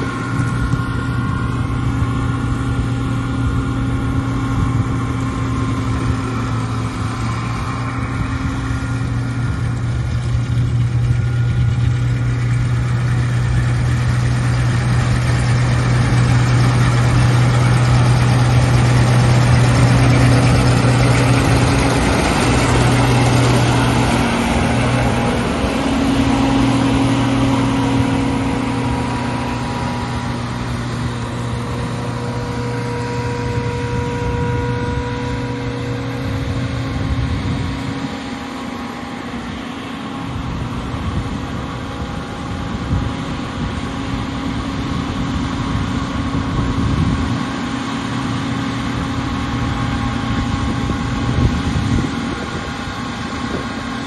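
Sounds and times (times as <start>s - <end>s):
diesel engine drone: 0.0s - 54.0s
machinery clattering and whirring: 0.0s - 54.0s.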